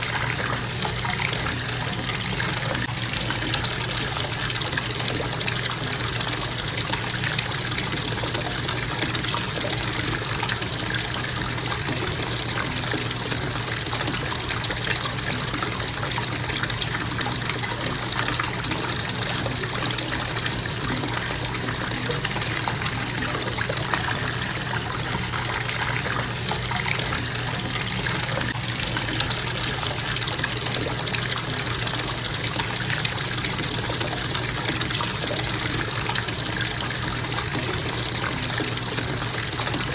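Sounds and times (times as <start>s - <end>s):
bathtub faucet running: 0.0s - 39.9s.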